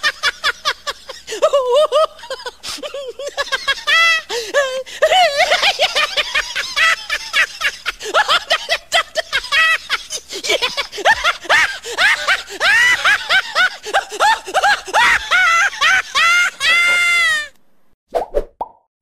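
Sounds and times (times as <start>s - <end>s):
high-pitched cackling laughs: 0.0s - 17.5s.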